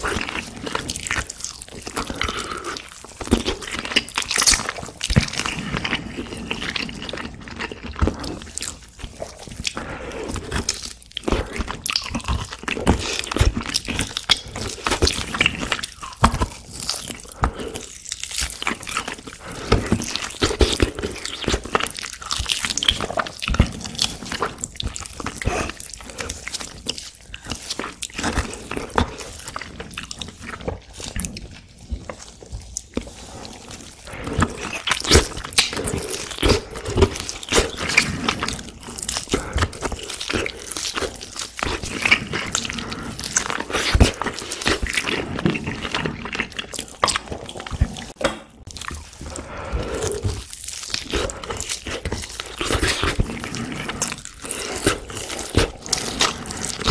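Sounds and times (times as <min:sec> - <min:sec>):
chewing crackles and mouth sounds: 0:00.0 - 0:56.9
teeth gnawing meat off bone: 0:00.0 - 0:56.9.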